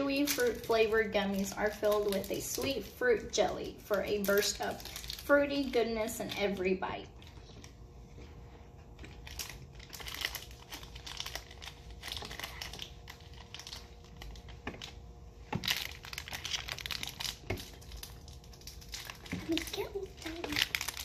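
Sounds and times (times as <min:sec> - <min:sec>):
plastic wrappers crinkling: 0:00.0 - 0:21.0.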